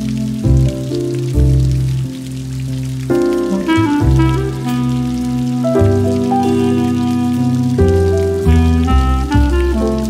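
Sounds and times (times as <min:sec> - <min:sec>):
mellow jazz music with bass: 0:00.0 - 0:10.0
rain hiss: 0:00.0 - 0:10.0.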